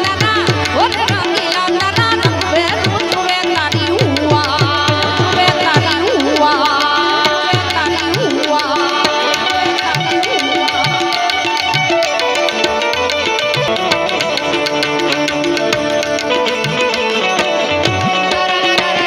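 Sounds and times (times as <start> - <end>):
fast hand drum rhythm: 0.0 - 19.0.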